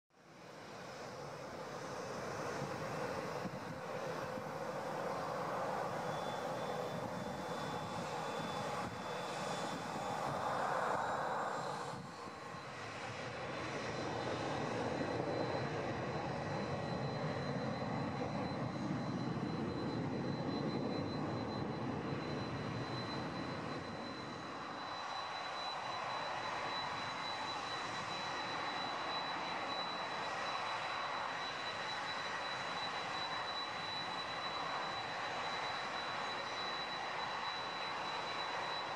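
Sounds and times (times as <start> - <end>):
jet engines rushing and whining: 0.2 - 38.9.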